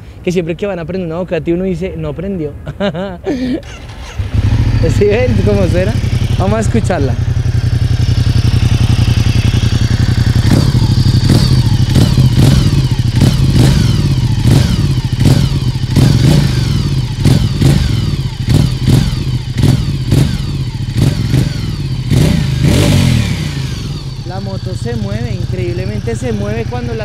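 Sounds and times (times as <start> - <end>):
motorcycle engine idling and revving: 3.6 - 27.0.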